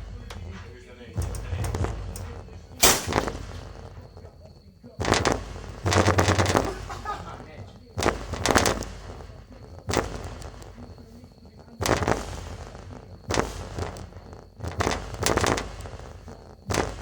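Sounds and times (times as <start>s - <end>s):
distorted subwoofer bass booms: 0.0s - 17.0s.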